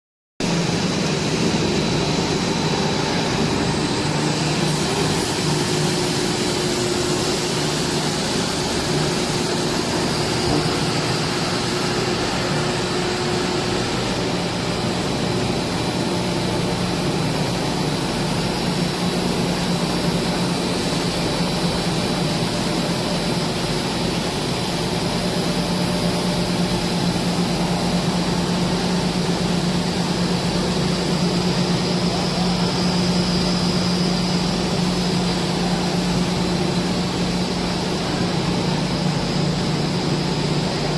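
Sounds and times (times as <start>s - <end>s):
machine low hum: 0.4s - 40.9s
thin high machine whine: 0.4s - 40.9s.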